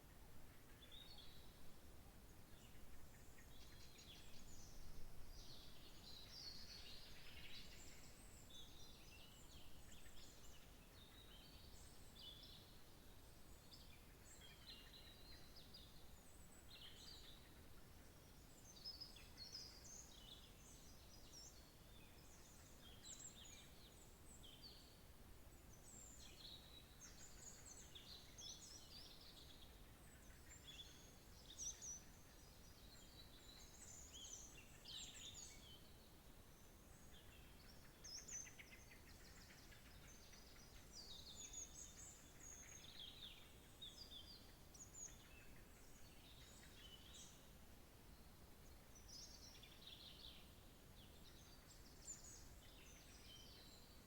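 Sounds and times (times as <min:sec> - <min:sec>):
soft steady hiss: 0:00.0 - 0:54.0
songbirds chirping and trilling: 0:00.1 - 0:54.0.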